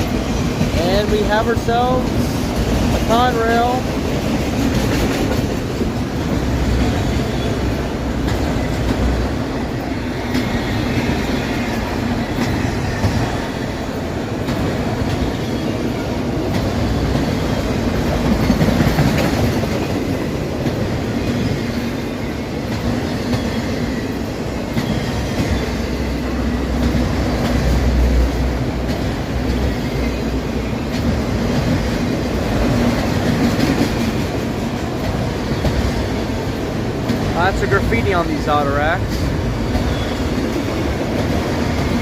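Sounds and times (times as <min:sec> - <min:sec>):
freight train wheels clattering on rails: 0:00.0 - 0:42.0.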